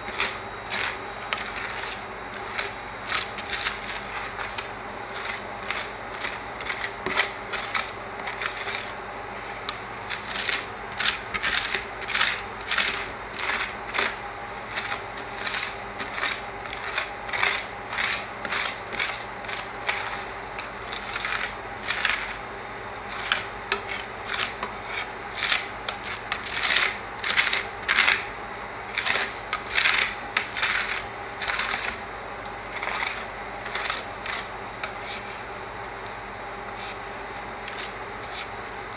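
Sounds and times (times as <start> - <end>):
faint hum: 0.0 - 38.9.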